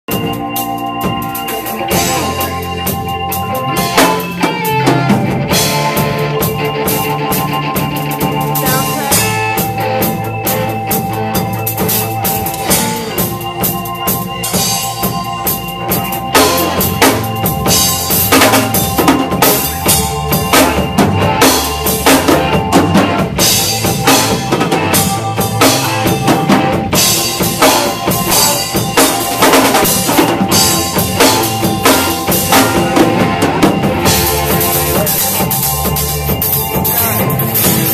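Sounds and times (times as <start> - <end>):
held keyboard notes: 0.0 - 37.9
bass line: 0.1 - 37.9.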